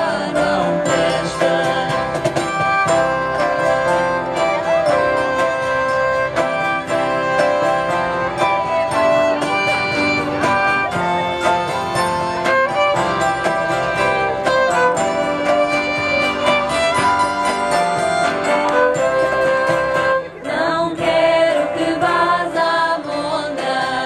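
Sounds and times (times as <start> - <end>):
guitar strumming: 0.0 - 23.5
violin melody: 0.0 - 23.6
keyboard accompaniment: 0.0 - 24.0.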